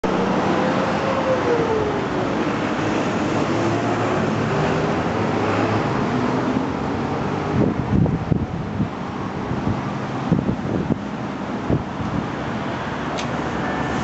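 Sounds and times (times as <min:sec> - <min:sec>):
passing vehicle whine: 0:00.0 - 0:14.0
steady traffic noise: 0:00.0 - 0:14.0.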